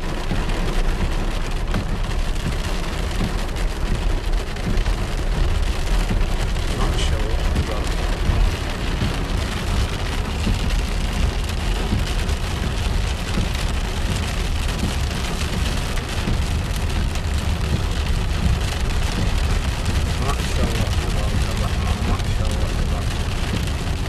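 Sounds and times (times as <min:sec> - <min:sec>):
car rumbling on wet road: 0:00.0 - 0:24.0
rain on car roof: 0:00.0 - 0:24.0.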